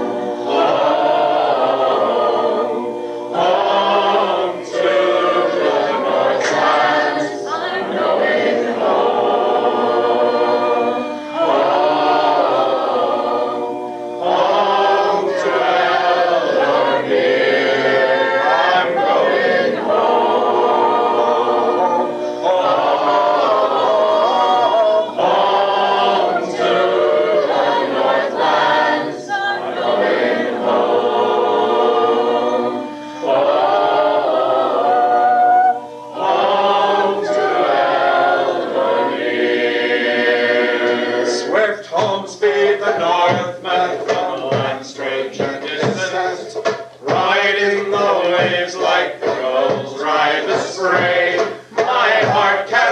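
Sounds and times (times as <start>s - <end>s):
choir singing a cappella: 0.0s - 52.9s.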